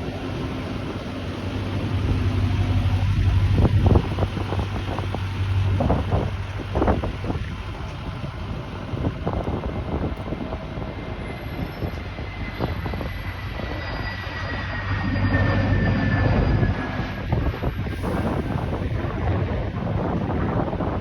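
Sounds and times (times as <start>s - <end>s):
jet engines rumbling and whining: 0.0s - 21.0s
wind buffeting microphone: 1.9s - 14.1s, 16.3s - 21.0s.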